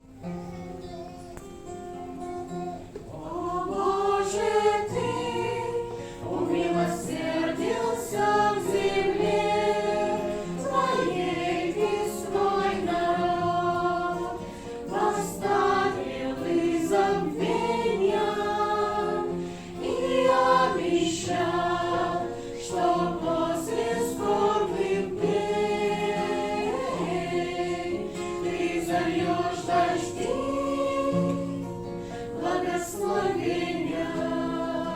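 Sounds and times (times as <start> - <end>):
choir singing worship song: 3.0 - 34.9.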